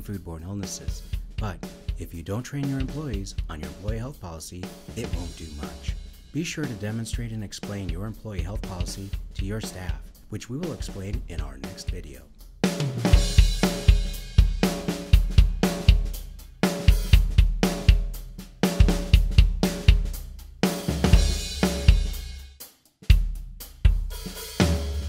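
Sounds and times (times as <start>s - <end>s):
drum kit music with bass line: 0.0s - 25.0s.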